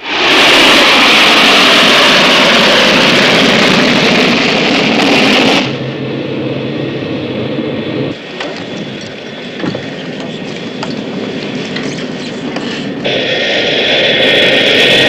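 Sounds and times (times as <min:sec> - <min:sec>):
jet airliner roaring overhead: 0:00.0 - 0:15.0.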